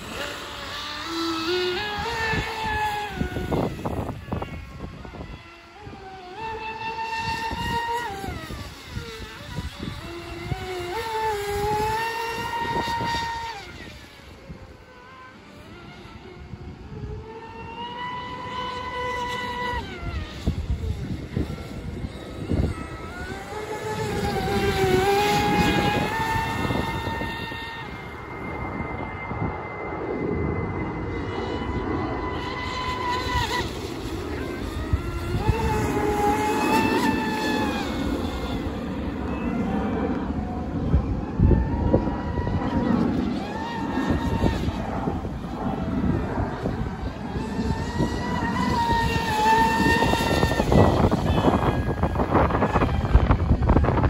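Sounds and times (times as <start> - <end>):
rc boat motor whining: 0.0 - 54.0.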